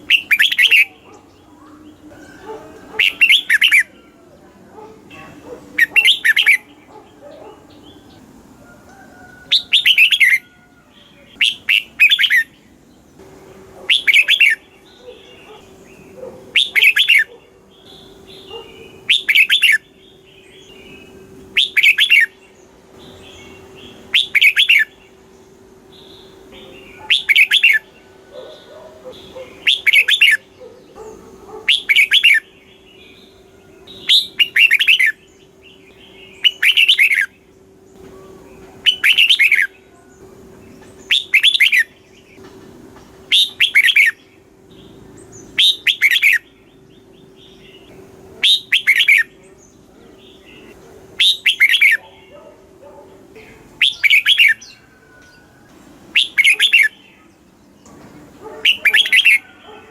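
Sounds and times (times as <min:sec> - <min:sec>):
bulbul singing: 0:00.0 - 0:59.9
faint steady hum: 0:00.0 - 0:59.9.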